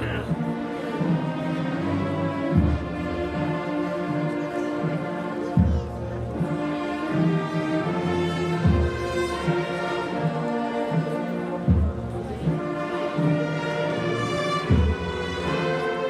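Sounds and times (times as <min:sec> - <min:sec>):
wind band playing funeral march: 0:00.0 - 0:16.0.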